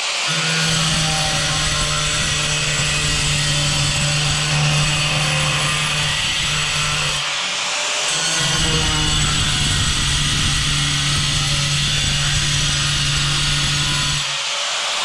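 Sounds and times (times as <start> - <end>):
angle grinder cutting tile: 0.0 - 15.0.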